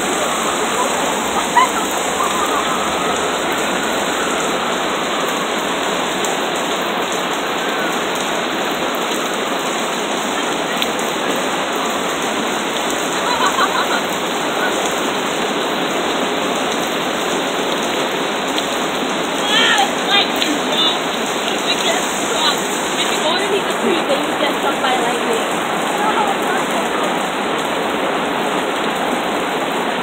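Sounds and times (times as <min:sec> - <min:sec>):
heavy rain on road: 0:00.0 - 0:30.0.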